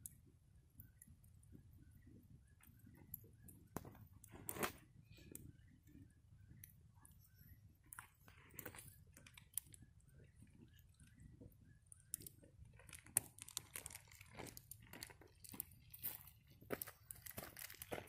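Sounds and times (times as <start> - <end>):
campfire crackling and popping: 0.0 - 7.2, 7.8 - 18.0.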